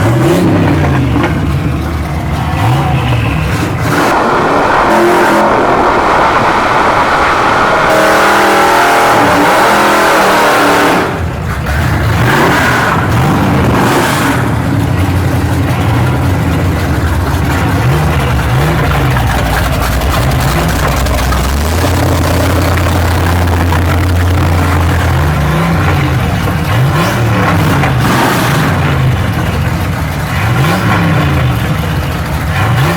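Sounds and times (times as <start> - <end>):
car engine revving: 0.0 - 32.9
heavy rushing noise: 0.0 - 32.9.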